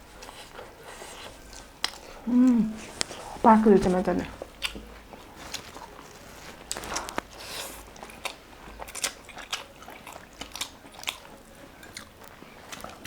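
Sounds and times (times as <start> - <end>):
person chewing food: 0.0 - 3.5, 4.2 - 13.0
food crunching: 0.0 - 13.0.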